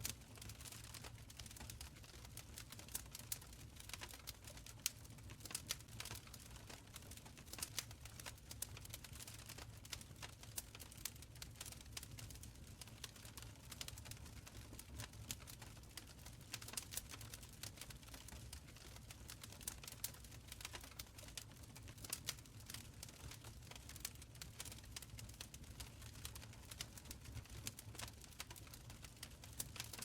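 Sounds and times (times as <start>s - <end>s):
wood fire popping and snapping: 0.0s - 30.0s.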